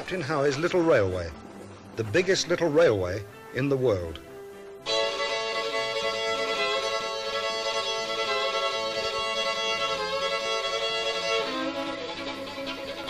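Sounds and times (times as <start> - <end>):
violin melody in long notes: 0.0 - 13.0.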